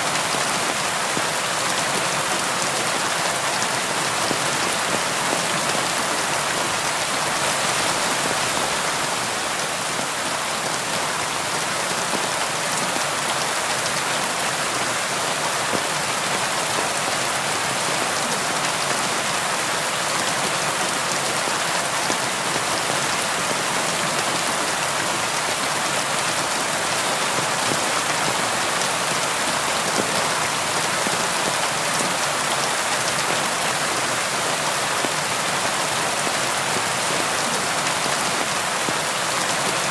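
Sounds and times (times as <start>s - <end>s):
rain on a window: 0.1s - 39.9s.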